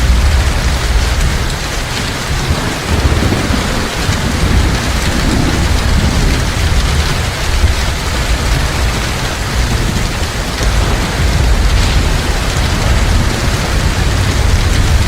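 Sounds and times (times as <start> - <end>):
heavy rain pouring: 0.0 - 15.0
low rolling thunder: 0.0 - 15.0.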